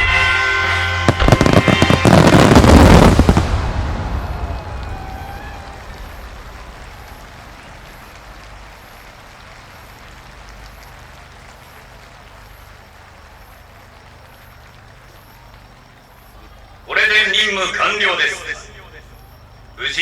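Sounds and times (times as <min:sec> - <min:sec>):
faint fireworks crackling: 0:00.0 - 0:20.0
fireworks rumble echoes: 0:00.0 - 0:20.0.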